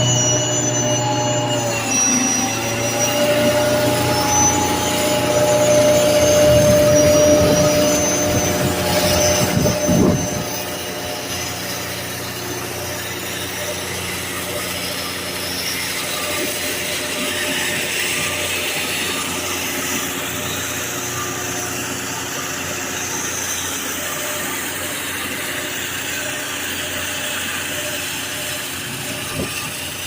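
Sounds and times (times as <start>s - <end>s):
steady whine: 0.0s - 30.0s.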